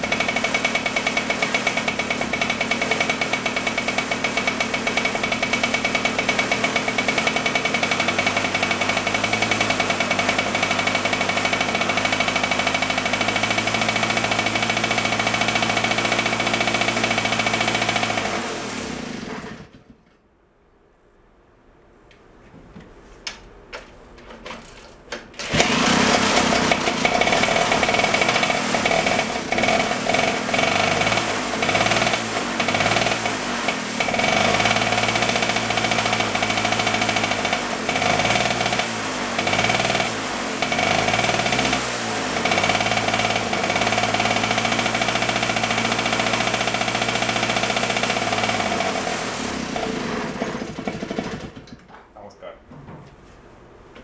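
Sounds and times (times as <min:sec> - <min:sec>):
auxiliary power unit engine running: 0:00.0 - 0:19.8, 0:24.2 - 0:51.8.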